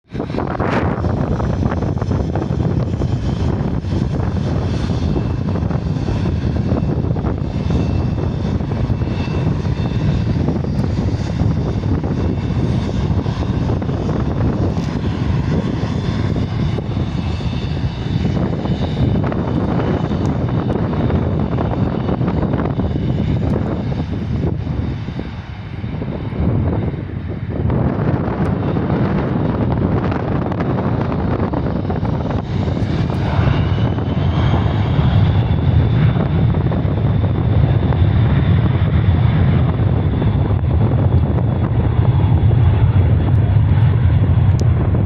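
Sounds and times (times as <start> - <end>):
high turbine whine: 0.0 - 45.0
jet engines roaring: 0.0 - 45.0.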